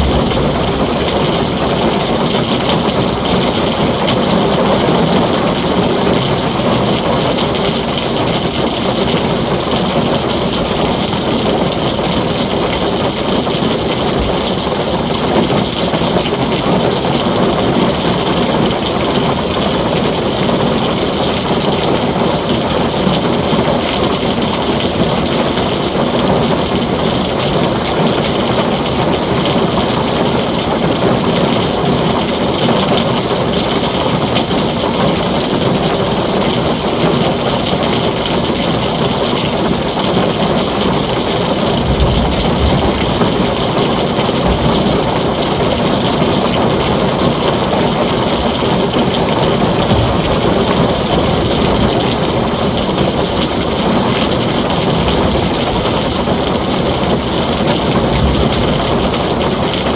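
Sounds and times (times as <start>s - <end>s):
heavy rain on a tin roof: 0.0s - 59.9s
low rumble of thunder: 0.0s - 59.9s.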